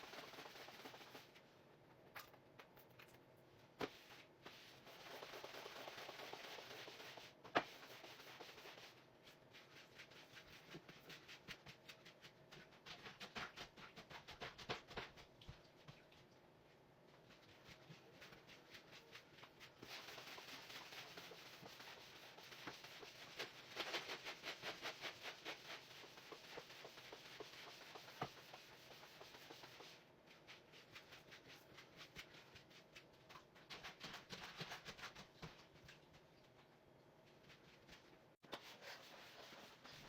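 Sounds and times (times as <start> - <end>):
scrubbing strokes: 3.8 - 14.6, 17.1 - 36.3, 37.3 - 40.0.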